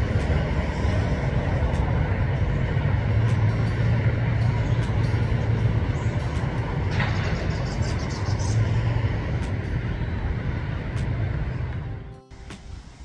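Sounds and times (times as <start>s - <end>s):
noisy hiss: 0.0s - 13.0s
vehicle engine rumbling: 0.0s - 13.0s.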